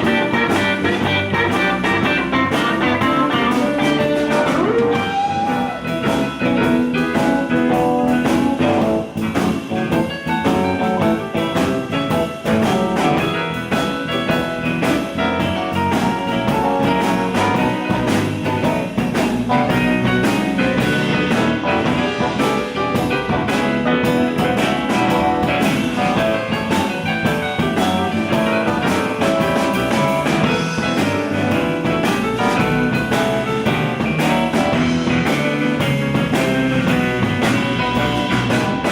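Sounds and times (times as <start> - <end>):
drum kit beat: 0.0 - 38.9
guitar: 0.0 - 38.9.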